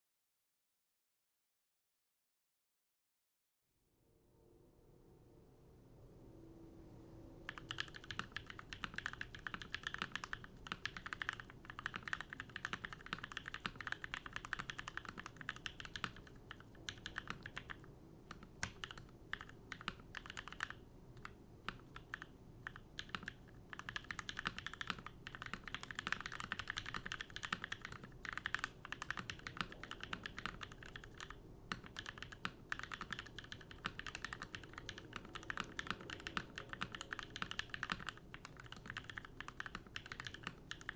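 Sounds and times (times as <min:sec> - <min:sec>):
mechanical keyboard typing: 0:07.5 - 0:40.9.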